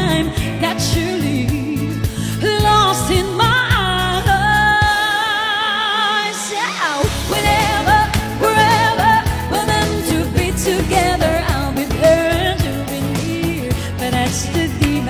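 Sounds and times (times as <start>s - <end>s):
pop backing track: 0.0s - 15.0s
woman singing: 0.0s - 15.0s.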